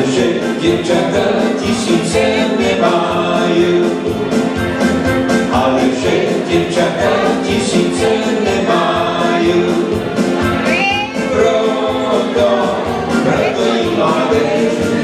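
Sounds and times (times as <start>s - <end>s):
person singing: 0.0s - 4.4s, 5.5s - 15.0s
electronic keyboards dance music: 0.0s - 15.0s.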